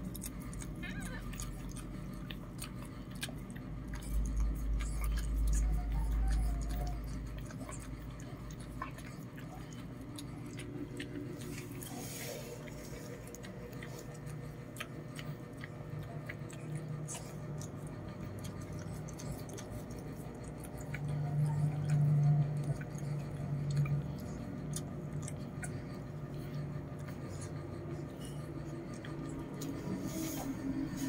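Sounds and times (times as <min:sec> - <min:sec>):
dog licking and chewing: 0:00.0 - 0:31.0.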